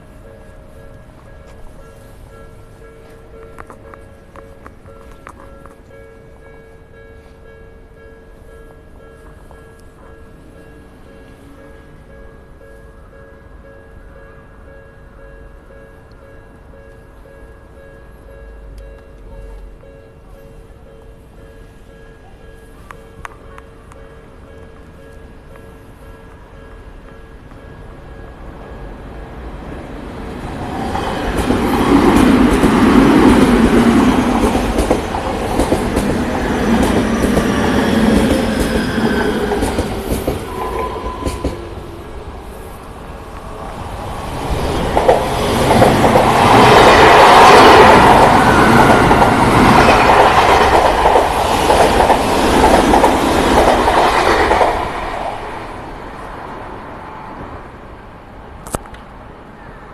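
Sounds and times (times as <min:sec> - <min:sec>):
electric trains passing: 0:00.0 - 0:59.9.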